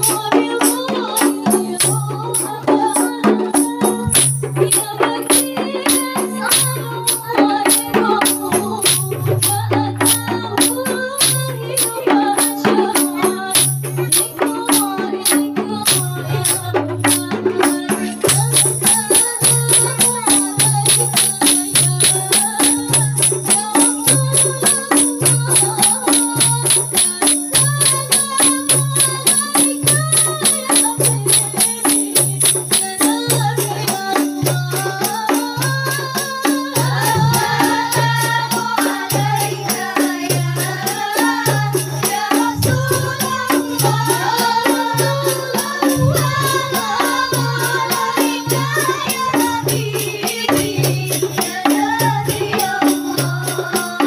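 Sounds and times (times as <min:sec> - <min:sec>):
frame drums beating: 0:00.0 - 0:54.0
women singing through microphones: 0:00.0 - 0:54.0.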